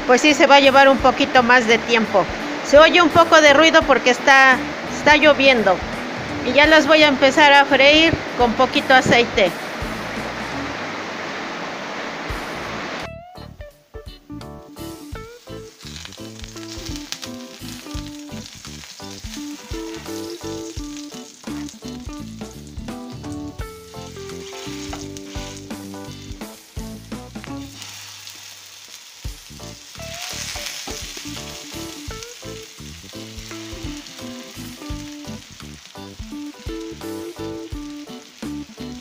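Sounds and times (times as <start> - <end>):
background music: 0.0 - 10.9, 12.3 - 28.1, 29.3 - 39.0
patties sizzling in oil: 0.0 - 11.2, 14.6 - 39.0.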